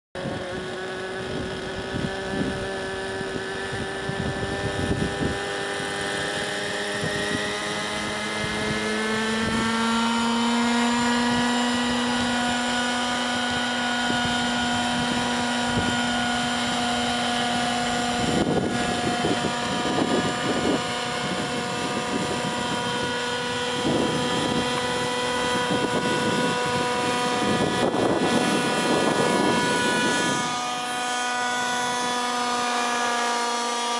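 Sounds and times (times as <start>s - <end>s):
model helicopter engine whine: 0.2s - 33.9s.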